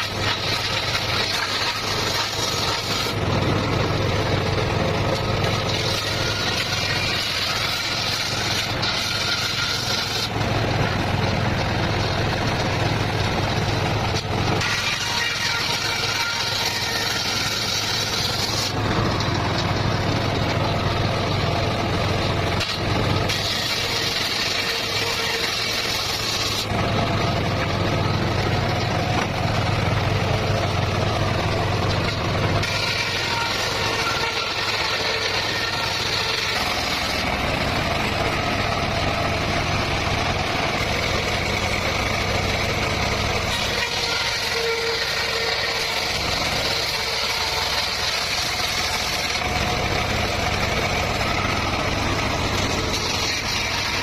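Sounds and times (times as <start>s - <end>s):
circular saw cutting bamboo: 0.0s - 54.0s.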